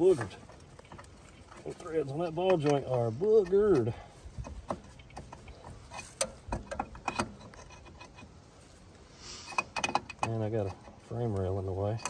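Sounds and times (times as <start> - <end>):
soft hiss: 0.0 - 12.0
hand tools clicking and tapping: 0.2 - 8.3, 9.5 - 12.0.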